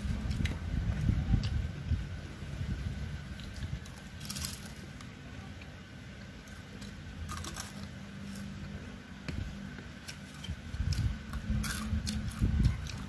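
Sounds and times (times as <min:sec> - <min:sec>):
people chewing food: 0:00.0 - 0:13.0
steady low hum: 0:00.0 - 0:13.0.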